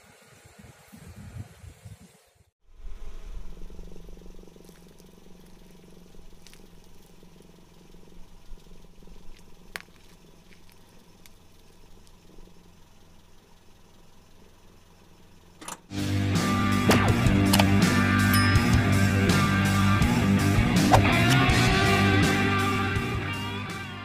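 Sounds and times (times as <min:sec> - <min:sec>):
car engine running: 0:02.6 - 0:24.0.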